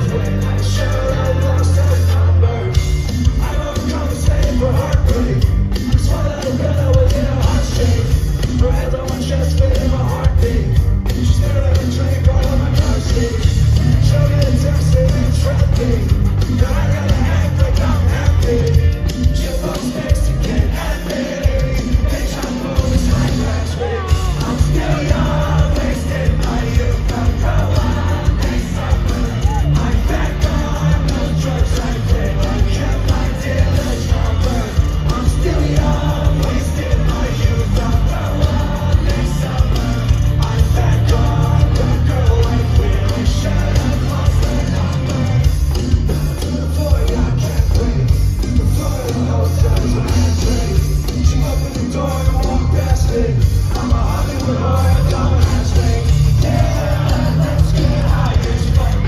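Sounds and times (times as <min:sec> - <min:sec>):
bass: 0:00.0 - 0:59.0
drums: 0:00.0 - 0:59.0
electric guitar: 0:00.0 - 0:59.0
live rock band playing: 0:00.0 - 0:59.0
voices singing: 0:00.0 - 0:59.0.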